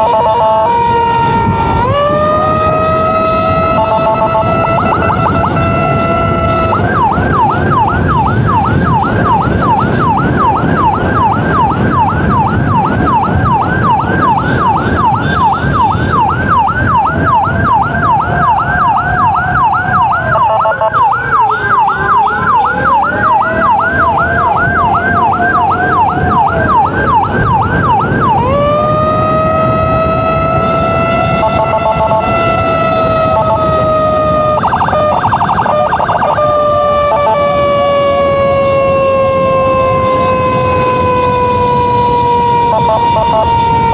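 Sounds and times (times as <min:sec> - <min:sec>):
emergency siren yelp and wail: 0:00.0 - 0:43.9
motorcycle engine: 0:00.0 - 0:43.9
wind noise: 0:00.0 - 0:43.9.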